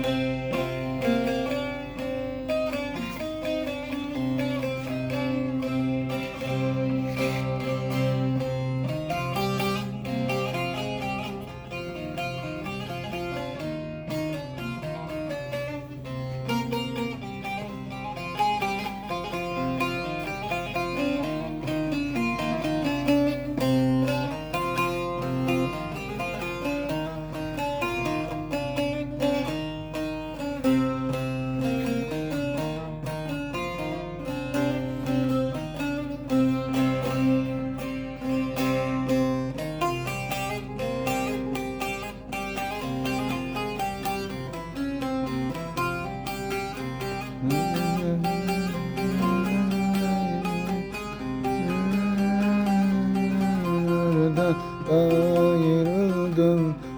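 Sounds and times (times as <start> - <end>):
plucked long-necked lute melody: 0.0 - 56.9.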